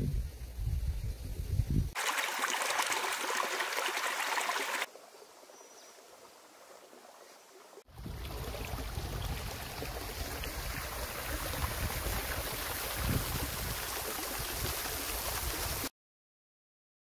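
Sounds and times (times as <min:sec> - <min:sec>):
stream gurgling over rocks: 0:02.0 - 0:15.9.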